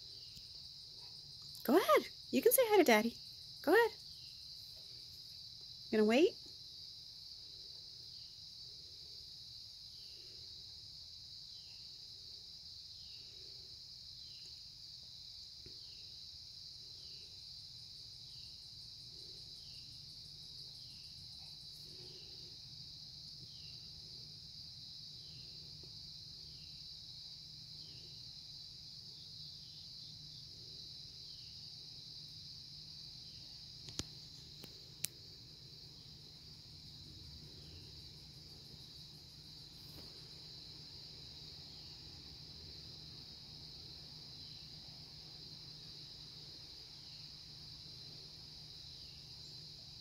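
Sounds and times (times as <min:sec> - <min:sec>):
insect chorus trilling: 0:00.0 - 0:50.0.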